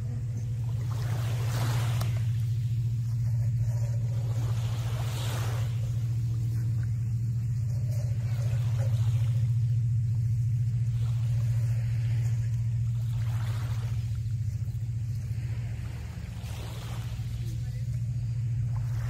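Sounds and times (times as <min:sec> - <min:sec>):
low engine drone: 0:00.0 - 0:19.0
small waves washing: 0:00.0 - 0:19.0.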